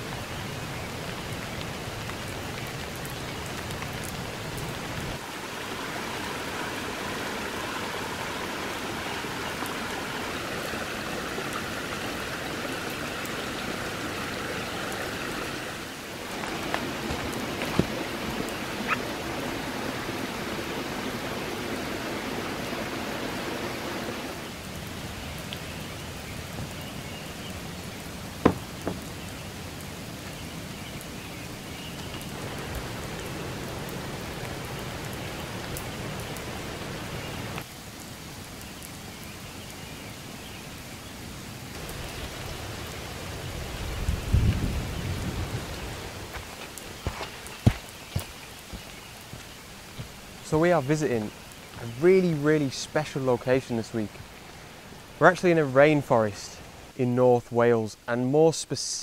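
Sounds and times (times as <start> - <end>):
water trickling over leaves: 0.0 - 56.9
rain pattering: 0.0 - 59.0.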